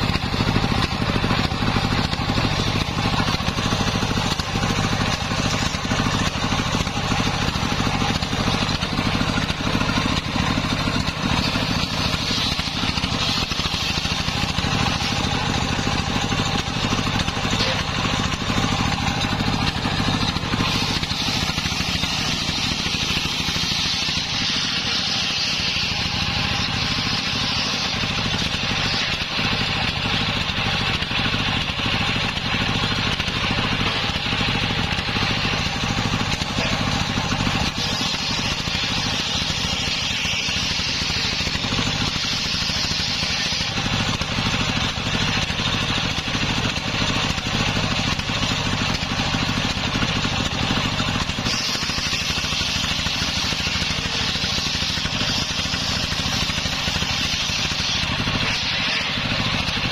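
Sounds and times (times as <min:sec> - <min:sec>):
circular saw cutting log: 0:00.0 - 0:59.9
engine drone: 0:00.0 - 0:59.9.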